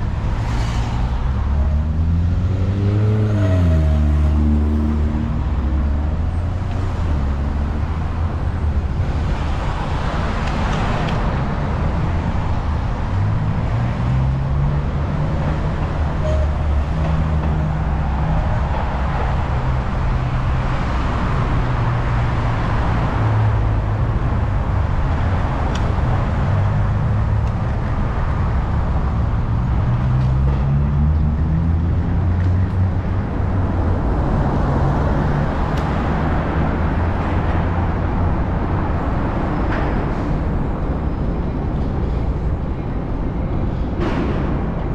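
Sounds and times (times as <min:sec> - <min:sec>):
car engines accelerating: 0:00.0 - 0:44.9
tyre and road noise: 0:00.0 - 0:44.9.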